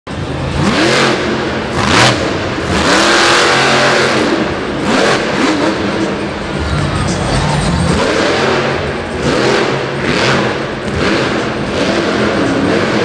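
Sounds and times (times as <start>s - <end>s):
monster truck engine revving: 0.1s - 13.0s.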